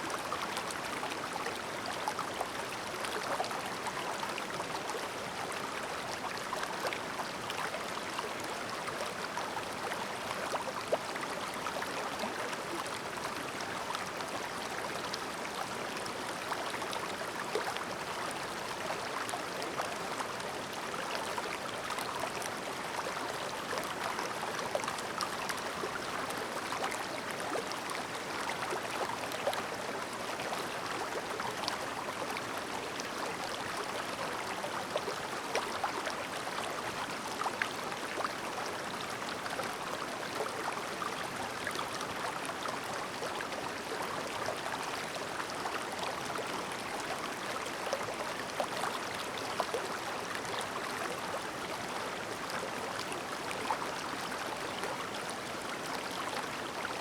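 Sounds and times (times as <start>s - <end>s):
stream babbling over rocks: 0.1s - 57.0s.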